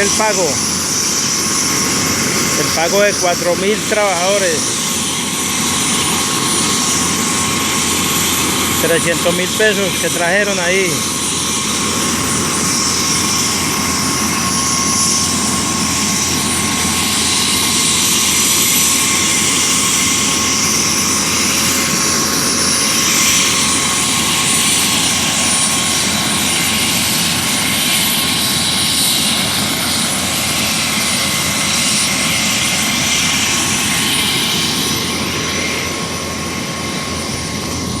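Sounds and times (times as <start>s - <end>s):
constant whine: 0.0s - 38.0s
helicopter running: 0.0s - 38.0s.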